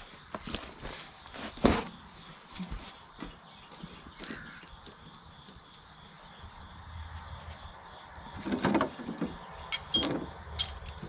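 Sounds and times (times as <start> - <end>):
cricket chirping at regular beat: 0.0 - 11.0
crickets buzzing: 0.0 - 11.0.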